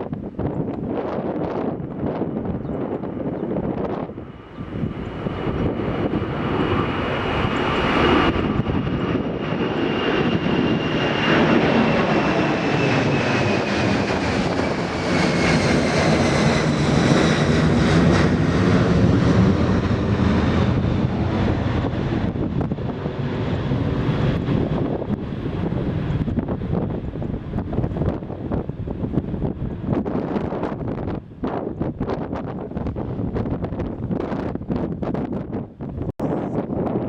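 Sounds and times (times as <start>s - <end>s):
jet engines passing by: 0.0s - 37.0s.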